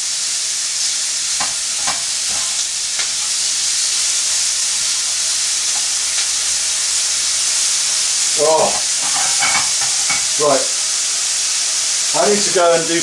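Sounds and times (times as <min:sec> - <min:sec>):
bacon sizzling in a frying pan: 0:00.0 - 0:13.0.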